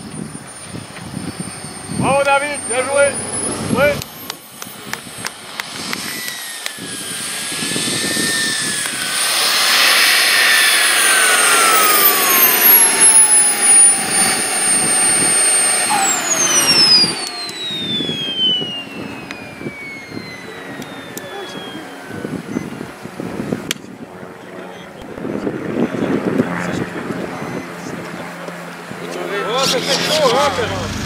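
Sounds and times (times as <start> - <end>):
model jet engine whining down: 0.0 - 31.0.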